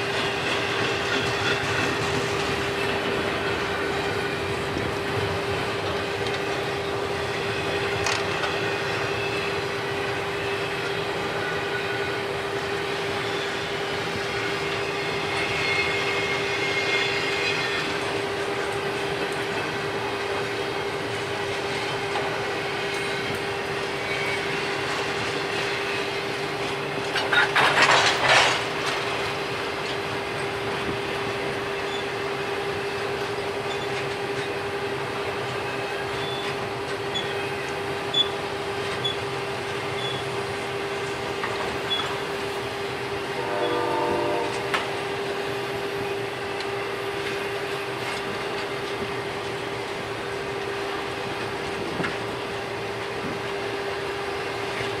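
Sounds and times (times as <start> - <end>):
train cars rolling past: 0.0 - 55.0.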